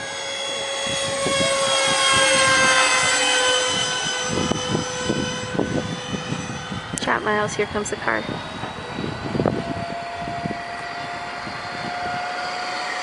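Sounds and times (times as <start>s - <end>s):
electric ducted fans whining: 0.0s - 13.0s.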